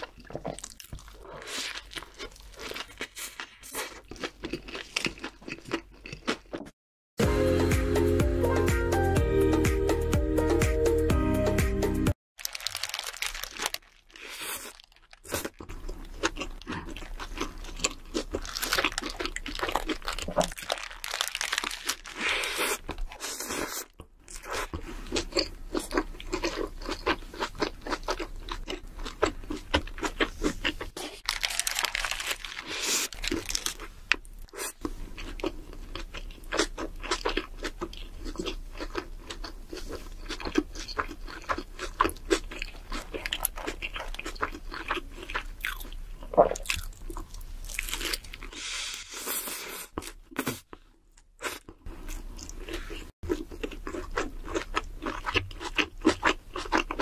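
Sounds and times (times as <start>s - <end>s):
crunchy food chewing: 0.0s - 6.8s, 12.4s - 57.0s.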